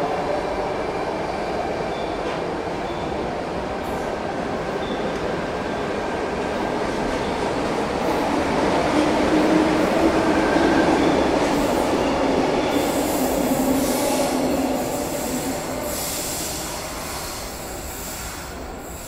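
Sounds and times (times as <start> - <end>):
electric train rumbling past: 0.0 - 19.0.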